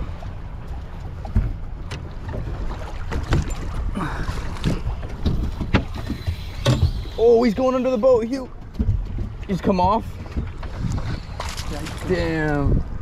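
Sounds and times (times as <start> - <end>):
water lapping against boat hull: 0.0 - 13.0
wind rumbling on microphone: 0.0 - 13.0.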